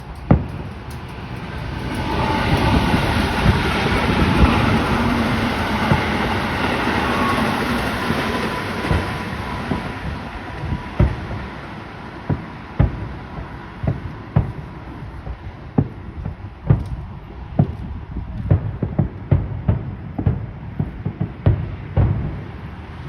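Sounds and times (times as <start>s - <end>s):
distant fireworks thumps: 0.0s - 7.3s, 8.1s - 22.8s
passing train rumbling: 0.0s - 23.0s.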